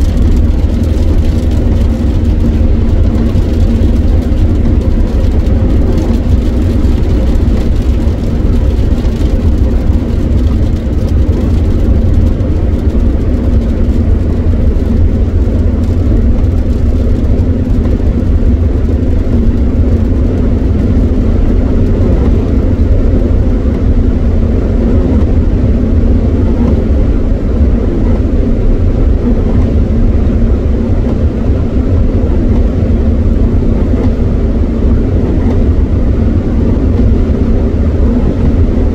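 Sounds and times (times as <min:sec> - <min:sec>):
faint engine hum: 0:00.0 - 0:38.9
tyres rumbling on wet road: 0:00.0 - 0:38.9.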